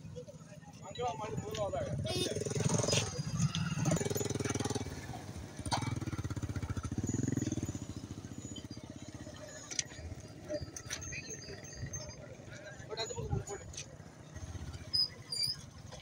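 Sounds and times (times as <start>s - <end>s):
motorcycle engine running: 0.1s - 13.2s.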